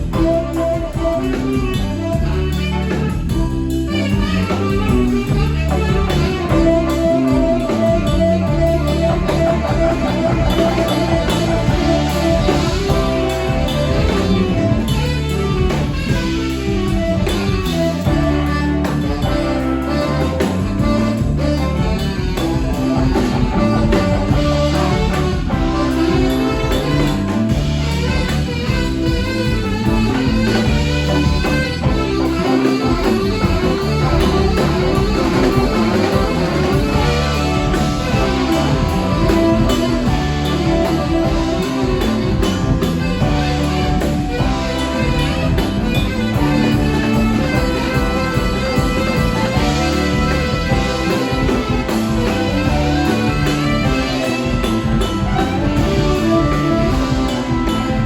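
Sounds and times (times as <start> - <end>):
bass: 0.0 - 58.0
drum kit: 0.0 - 58.0
electric guitar: 0.0 - 58.0.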